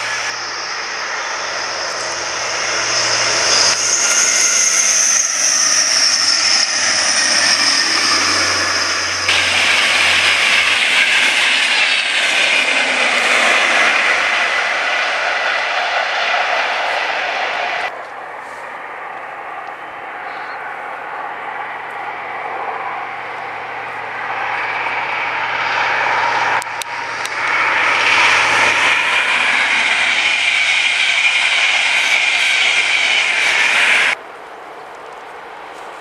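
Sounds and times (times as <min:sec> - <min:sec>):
train wheels rushing on rail: 0:00.0 - 0:34.2
high train whine: 0:00.0 - 0:36.0.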